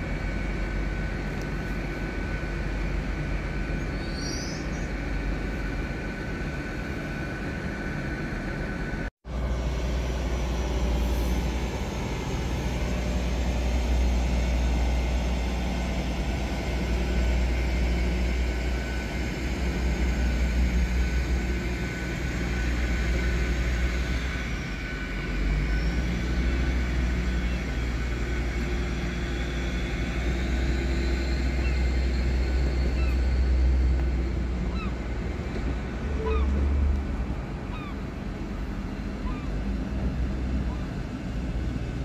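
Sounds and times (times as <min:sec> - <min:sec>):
train diesel engines rumbling: 0:00.0 - 0:42.0.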